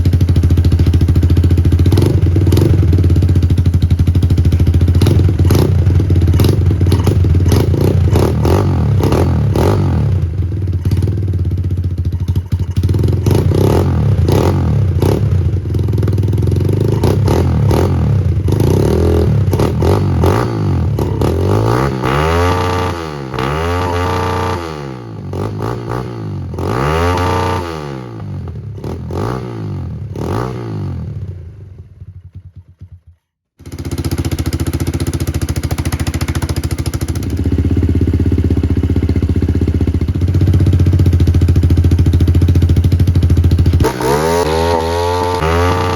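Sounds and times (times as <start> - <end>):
small motorcycle engine revving: 0.0 - 31.4, 33.6 - 39.8, 40.4 - 45.9.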